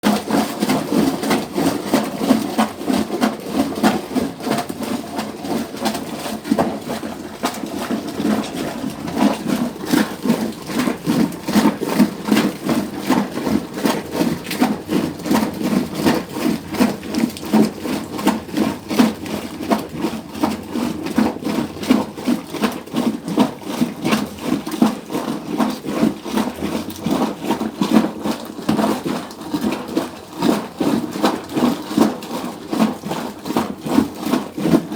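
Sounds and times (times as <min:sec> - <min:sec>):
manual washing machine churning: 0:00.0 - 0:34.9.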